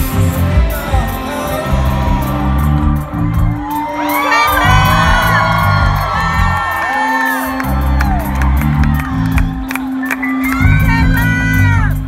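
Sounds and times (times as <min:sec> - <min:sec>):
live rock band playing: 0:00.0 - 0:12.0
crowd whooping: 0:00.7 - 0:12.0.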